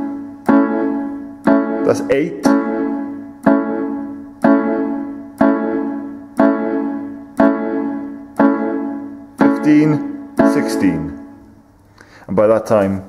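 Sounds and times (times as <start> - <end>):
keyboard chords ringing: 0.0 - 11.6.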